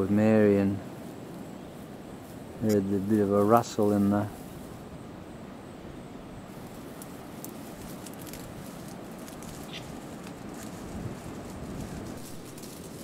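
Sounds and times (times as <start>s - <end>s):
rustling in dry grass: 0.0s - 13.0s
steady outdoor hiss: 0.0s - 13.0s.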